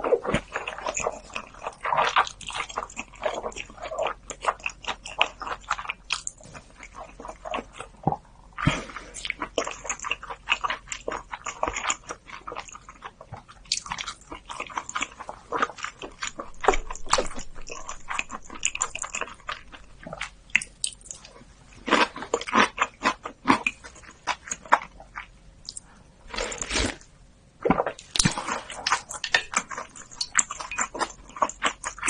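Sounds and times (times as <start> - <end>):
person biting and chewing food: 0.0 - 32.0.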